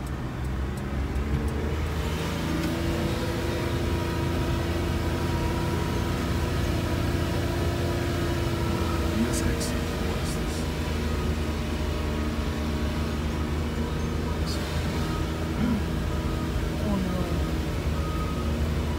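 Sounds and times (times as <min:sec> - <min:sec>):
car engine hum: 0:00.0 - 0:18.9
road noise inside car: 0:00.0 - 0:18.9.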